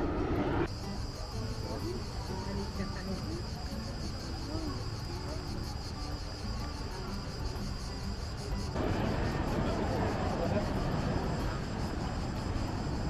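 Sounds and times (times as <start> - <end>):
faint voices of people: 0.0 - 13.0
cicadas singing: 0.6 - 13.0.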